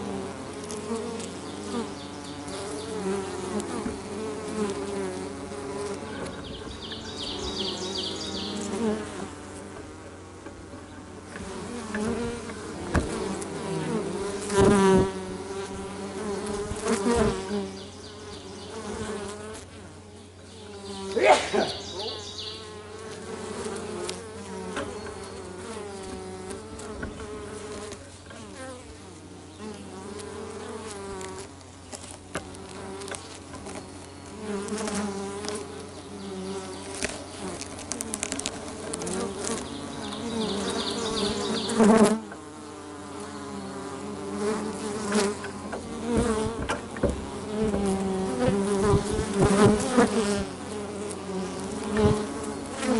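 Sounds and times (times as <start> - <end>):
bees buzzing: 0.0 - 52.9
single bee flying past: 0.0 - 52.9.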